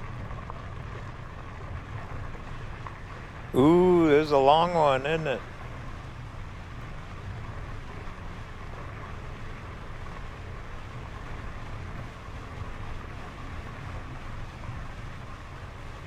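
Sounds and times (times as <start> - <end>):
faint motor whine: 0.0 - 16.0.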